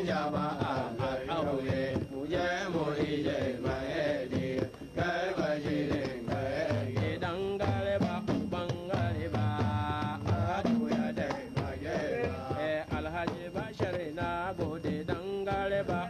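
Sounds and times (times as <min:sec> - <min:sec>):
hand drums beating: 0:00.0 - 0:16.0
man singing: 0:00.0 - 0:16.0.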